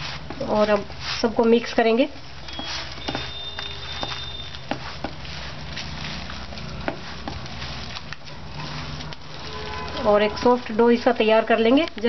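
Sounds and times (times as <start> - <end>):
hands squishing wet dough: 0.0 - 12.0.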